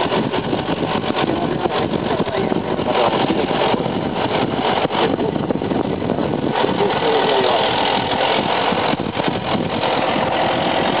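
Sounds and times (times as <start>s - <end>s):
vehicle engine running: 0.0s - 11.0s
wind on microphone: 0.0s - 11.0s.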